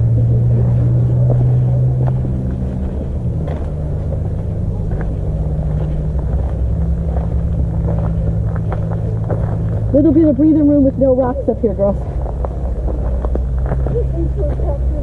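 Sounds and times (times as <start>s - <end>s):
low rumbling motor drone: 0.0s - 15.0s.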